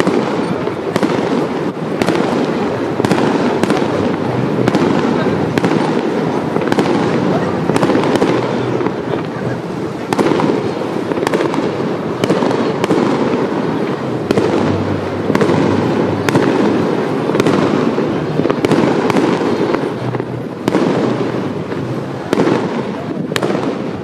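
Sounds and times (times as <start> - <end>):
firework shells bursting: 0.0 - 24.0
fireworks rumble and crackle: 0.0 - 24.0.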